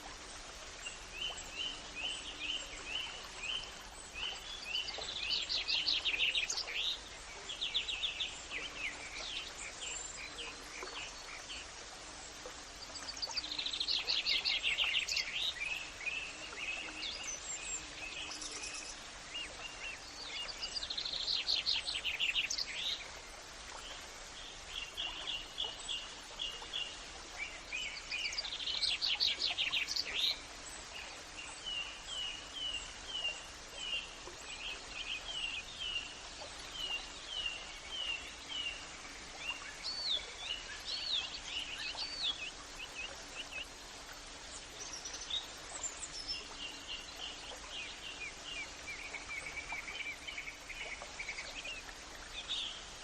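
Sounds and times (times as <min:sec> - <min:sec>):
songbirds singing: 0:00.0 - 0:53.0
steady background hiss: 0:00.0 - 0:53.0.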